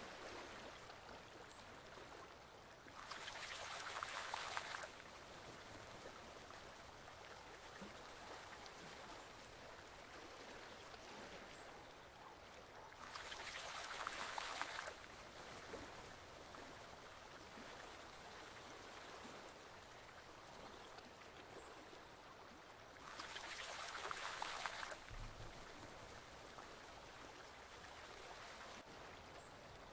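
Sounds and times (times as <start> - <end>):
forest stream flowing: 0.0 - 29.9.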